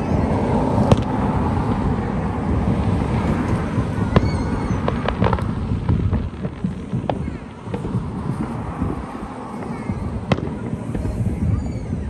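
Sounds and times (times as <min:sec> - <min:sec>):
car passing on road: 0:00.0 - 0:11.3
distant fireworks popping and crackling: 0:00.0 - 0:12.0.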